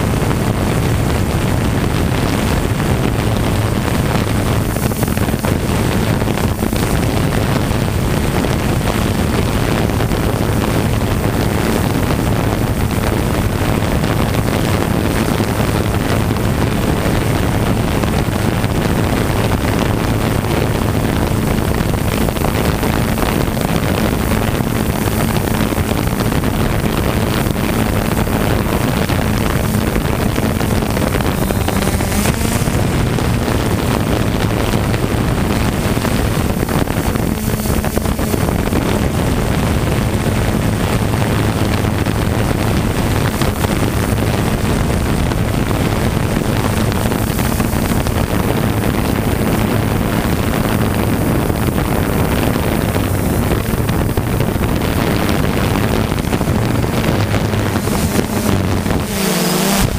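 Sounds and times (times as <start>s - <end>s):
drone propellers humming: 0.0s - 59.9s
wind on microphone: 0.0s - 59.9s.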